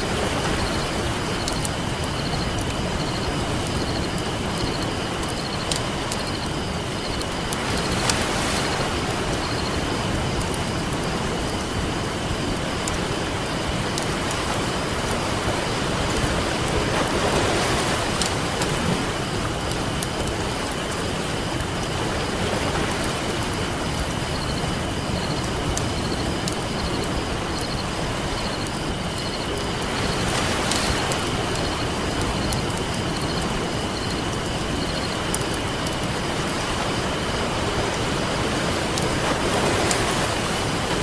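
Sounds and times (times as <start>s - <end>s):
campfire crackling and popping: 0.0s - 17.0s, 17.6s - 36.3s
ocean waves: 0.0s - 41.0s.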